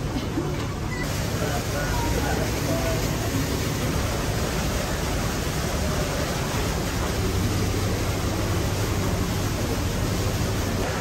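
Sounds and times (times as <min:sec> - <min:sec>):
aquarium hall rushing ambience: 0:00.0 - 0:11.0.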